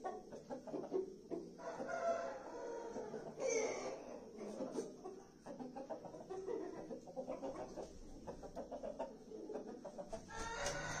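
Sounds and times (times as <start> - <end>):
chicken clucking: 0.0 - 11.0.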